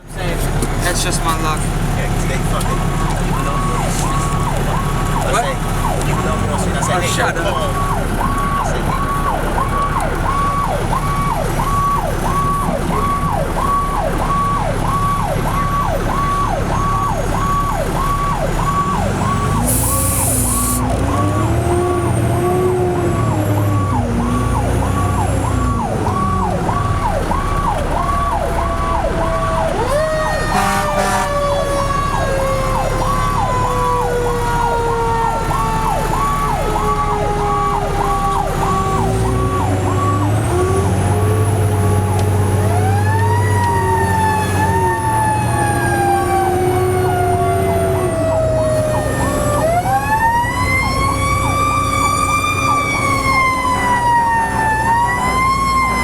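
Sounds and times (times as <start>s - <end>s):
fire truck engine drone: 0.0s - 56.0s
siren rising and falling: 0.8s - 56.0s
siren yelping: 2.2s - 56.0s.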